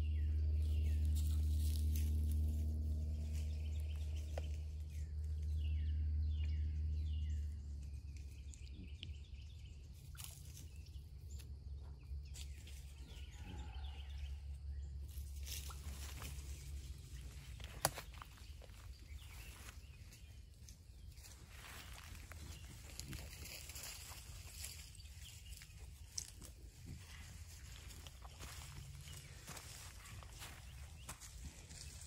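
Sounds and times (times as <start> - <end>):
birds chirping: 0.0 - 32.0
low steady drone: 0.0 - 32.0.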